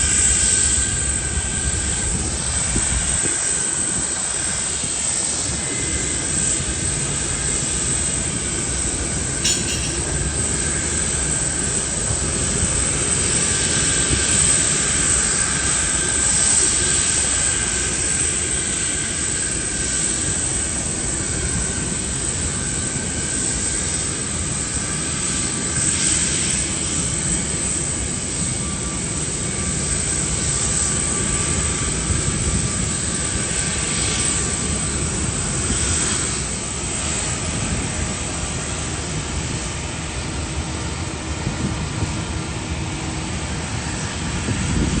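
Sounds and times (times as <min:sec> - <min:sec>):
jet engines running: 0:00.0 - 0:45.0.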